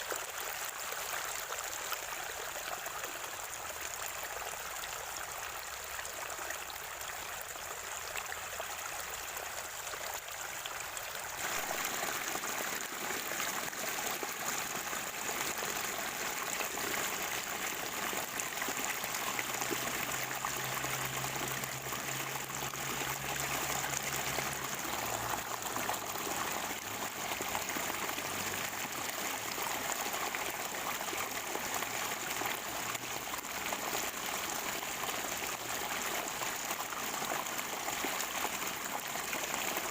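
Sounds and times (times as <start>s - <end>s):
stream water running and gurgling: 0.0s - 39.9s.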